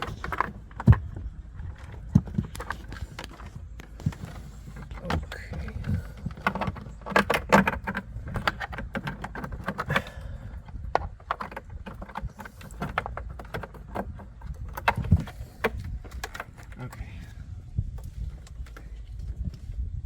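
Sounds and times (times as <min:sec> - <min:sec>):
cable rattling: 0:00.0 - 0:19.7.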